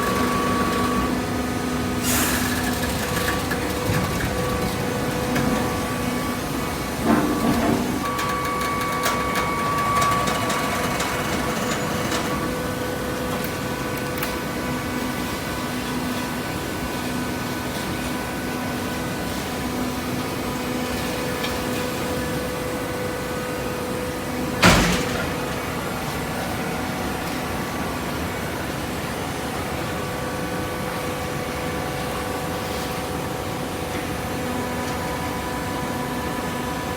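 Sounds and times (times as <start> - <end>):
baler motor and pump hum: 0.0 - 36.9.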